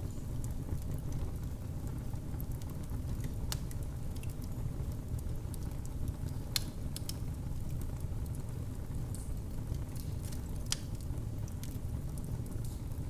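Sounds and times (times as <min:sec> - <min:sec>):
low rumble of flames: 0:00.0 - 0:13.0
fire pops and snaps: 0:02.3 - 0:13.0.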